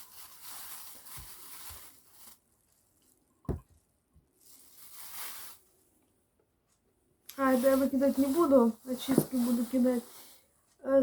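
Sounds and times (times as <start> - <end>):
faint rustling or scraping: 0.0 - 6.0, 7.3 - 10.8.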